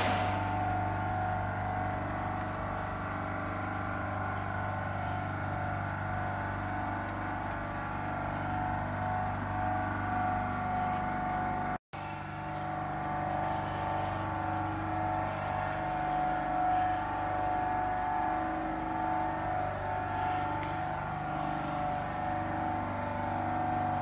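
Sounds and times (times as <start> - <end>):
factory machinery humming: 0.0 - 24.0.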